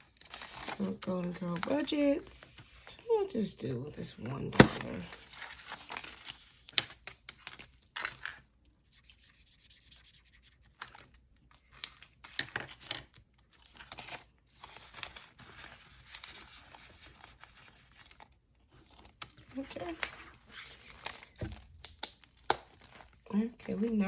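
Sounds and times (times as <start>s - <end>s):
paper rustling and crinkling: 0.0s - 2.1s, 4.5s - 8.4s, 10.0s - 24.0s.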